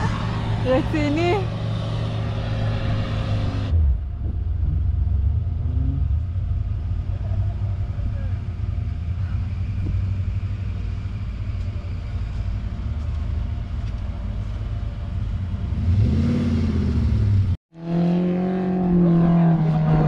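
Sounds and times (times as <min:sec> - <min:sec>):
engine running and revving: 0:00.0 - 0:20.0.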